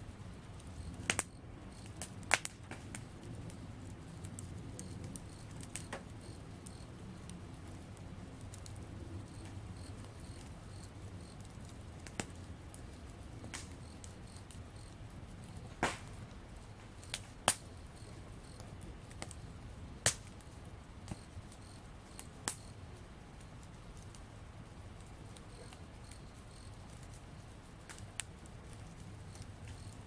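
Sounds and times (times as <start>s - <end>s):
campfire crackling and popping: 0.0s - 30.0s
low steady fire hiss: 0.0s - 30.0s.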